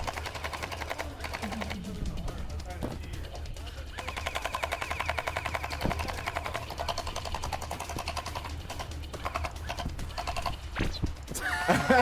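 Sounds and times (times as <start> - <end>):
rapid mechanical rattle: 0.0 - 11.3.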